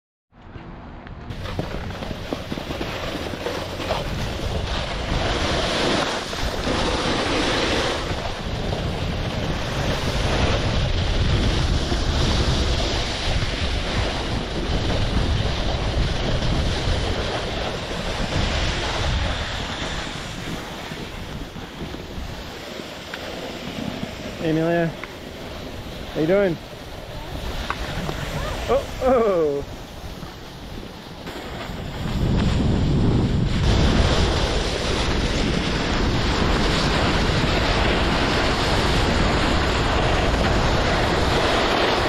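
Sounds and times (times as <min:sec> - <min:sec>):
wind buffeting microphone: 0:00.7 - 0:42.0
skis sliding on snow: 0:01.3 - 0:42.0.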